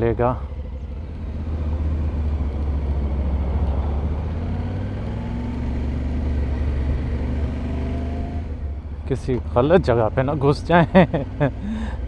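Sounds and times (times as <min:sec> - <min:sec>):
motorcycle engine rumble: 0:00.0 - 0:12.0
road noise: 0:00.0 - 0:12.0.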